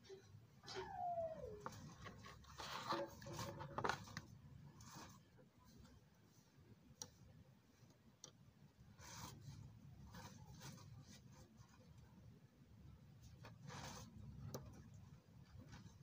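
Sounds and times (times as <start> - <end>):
scraping and rustling handwork: 0.0 - 8.1, 8.7 - 12.3, 13.0 - 16.0.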